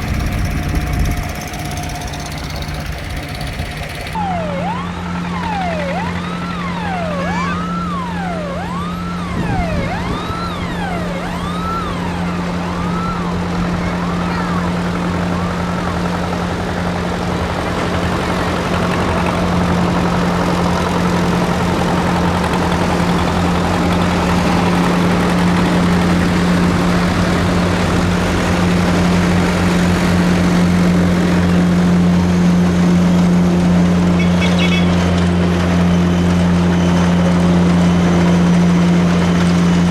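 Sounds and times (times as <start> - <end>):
siren wailing: 0.0 - 17.2, 19.6 - 39.9
tractor engine running: 0.0 - 39.9.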